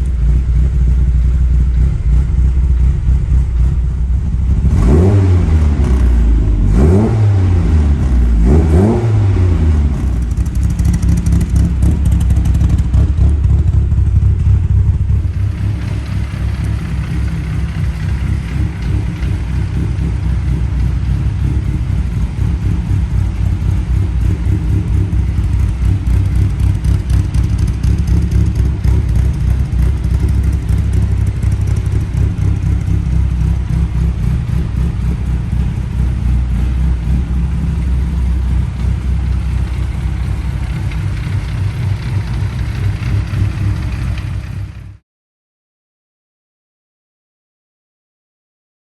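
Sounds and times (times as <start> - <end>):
car engine running: 0.0 - 45.0.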